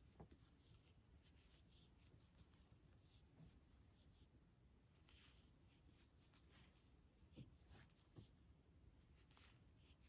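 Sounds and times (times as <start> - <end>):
yarn rubbing over crochet hook: 0.0 - 8.4.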